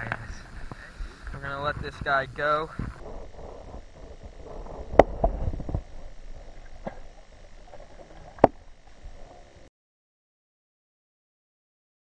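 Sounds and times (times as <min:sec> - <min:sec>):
microphone handling rumble and rustling: 0:00.0 - 0:09.7.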